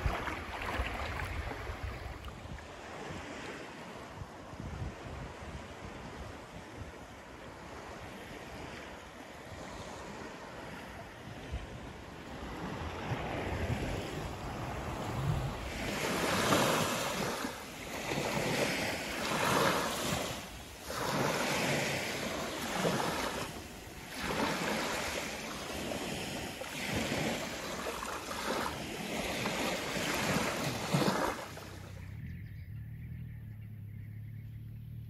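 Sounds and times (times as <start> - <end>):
waves washing up a beach: 0.0 - 32.0.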